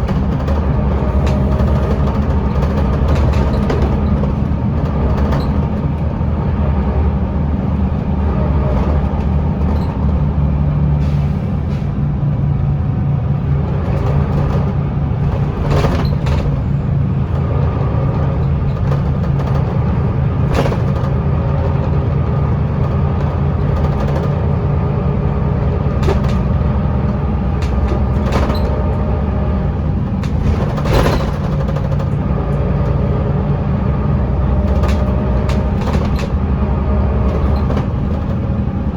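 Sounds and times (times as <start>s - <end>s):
bus body clicking and rattling: 0.0s - 38.9s
diesel bus engine droning: 0.0s - 38.9s.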